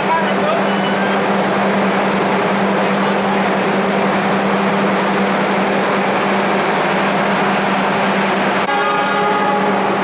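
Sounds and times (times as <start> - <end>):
passenger train rolling past: 0.0 - 10.0.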